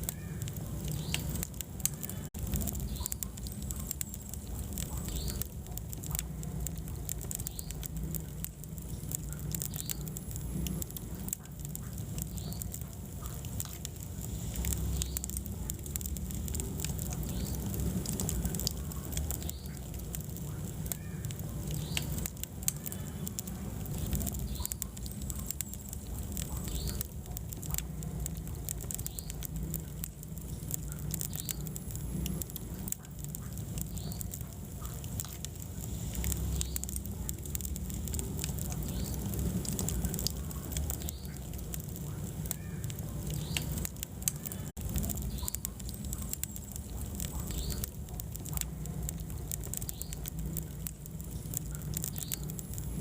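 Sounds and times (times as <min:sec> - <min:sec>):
fire crackling and popping: 0:00.0 - 0:53.0
fire rumbling in fireplace: 0:00.0 - 0:53.0.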